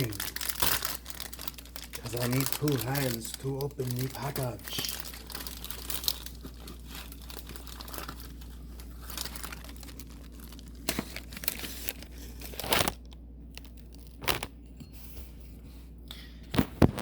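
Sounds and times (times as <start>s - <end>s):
plastic wrapper crinkling: 0.0s - 14.6s
wrapper ripping: 0.0s - 14.6s.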